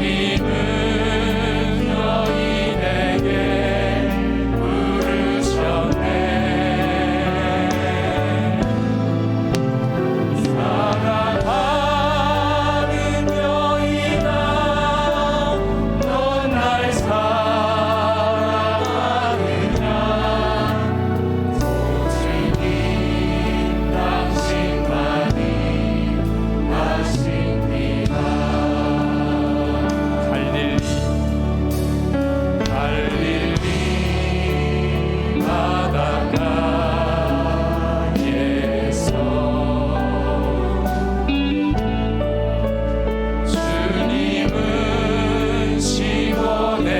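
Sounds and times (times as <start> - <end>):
voices singing together: 0.0 - 42.7, 43.4 - 46.9
bass guitar: 0.0 - 46.9
keyboards: 0.0 - 46.9
worship band playing: 0.0 - 46.9.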